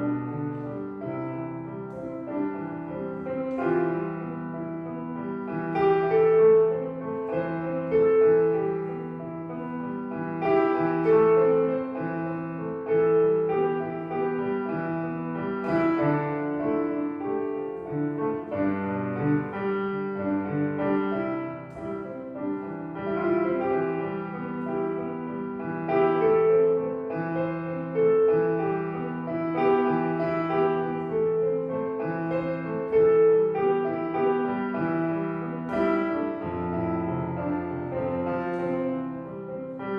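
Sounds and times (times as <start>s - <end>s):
piano melody with chords: 0.0s - 39.9s.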